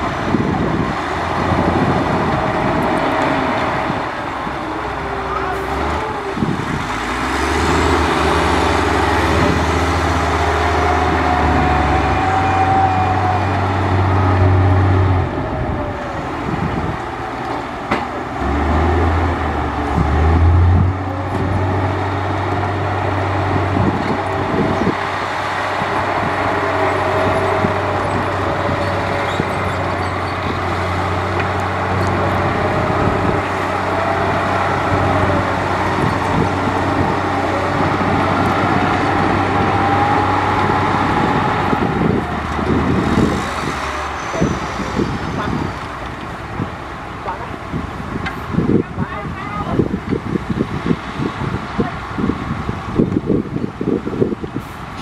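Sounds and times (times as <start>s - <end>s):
heavy diesel machinery drone: 0.0s - 55.0s.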